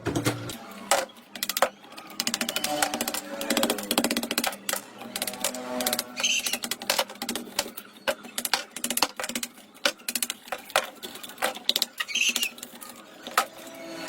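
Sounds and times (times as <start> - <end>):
metal parts rattling and scraping: 0.0 - 14.0
tools clicking and tapping: 0.1 - 13.6.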